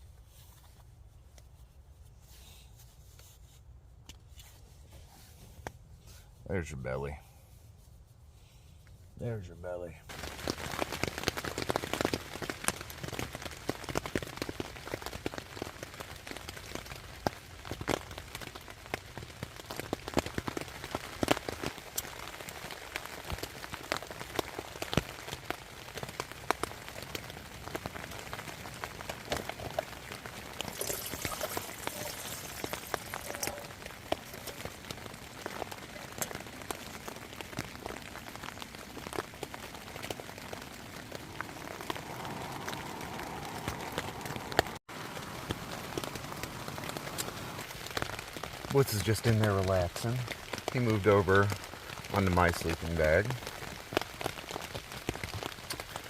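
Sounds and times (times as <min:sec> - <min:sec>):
heavy rain on a tent: 0:10.0 - 0:56.0.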